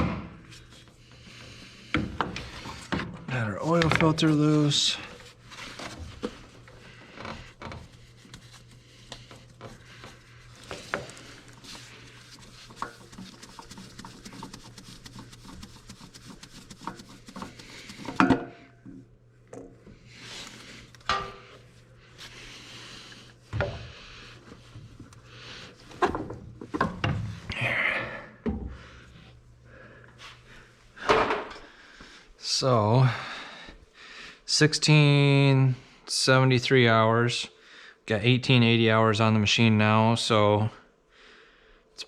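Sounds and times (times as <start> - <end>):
steady low hum: 0.0 - 36.4.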